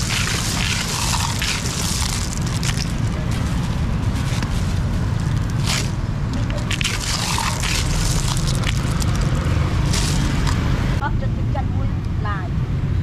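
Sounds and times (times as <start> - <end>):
scrapes and clicks: 0.0 - 10.6
low street rumble: 0.0 - 13.0.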